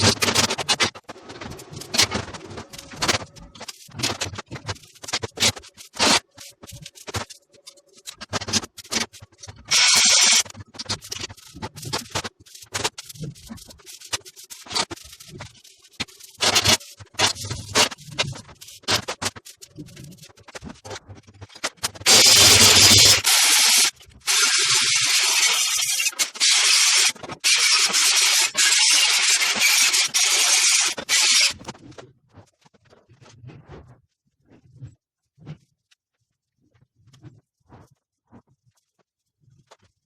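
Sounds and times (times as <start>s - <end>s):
scraping and scratching strokes: 0.0s - 40.0s.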